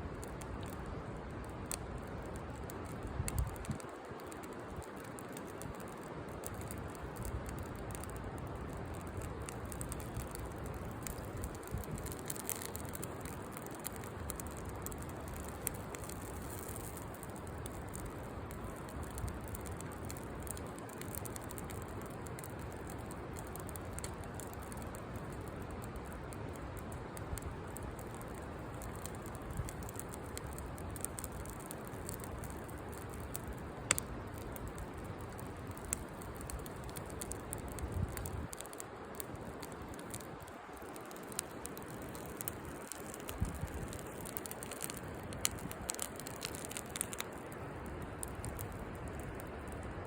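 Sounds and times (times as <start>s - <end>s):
campfire crackling: 0.0s - 50.0s.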